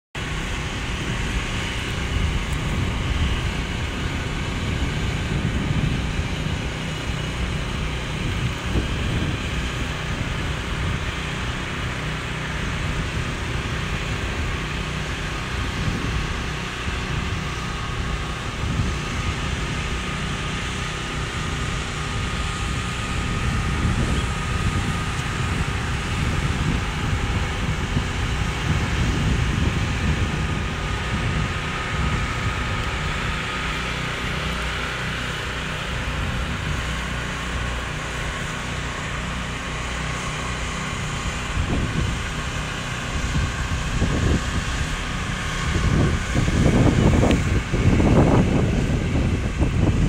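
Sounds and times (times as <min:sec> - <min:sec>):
wind buffeting microphone: 0:00.2 - 0:50.0.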